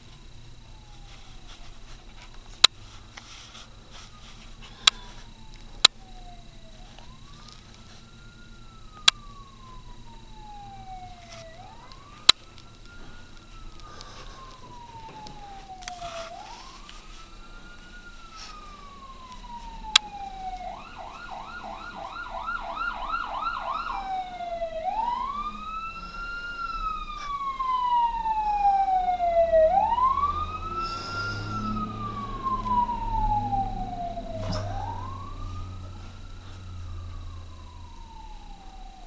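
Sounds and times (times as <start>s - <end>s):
fire truck siren wailing: 0.0s - 39.0s
siren fast yelp: 3.9s - 39.0s.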